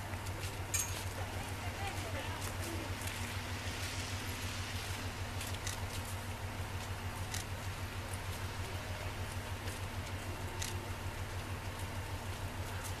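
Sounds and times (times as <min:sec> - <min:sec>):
diesel railcar idling: 0:00.0 - 0:13.0.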